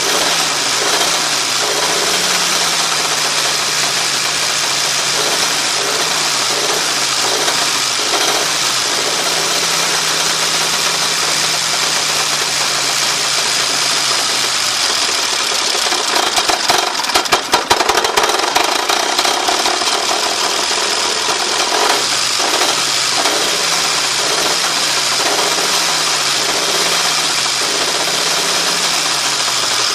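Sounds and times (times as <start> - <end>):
car engine running: 0.0 - 29.9
rapid clicking and rattling: 0.0 - 29.9.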